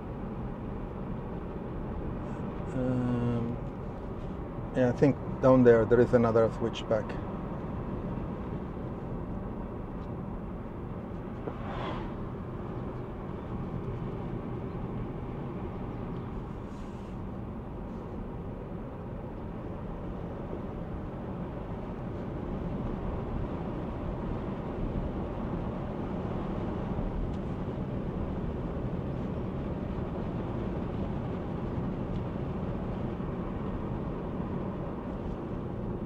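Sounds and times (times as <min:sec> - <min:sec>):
road and tyre noise in car: 0:00.0 - 0:36.0.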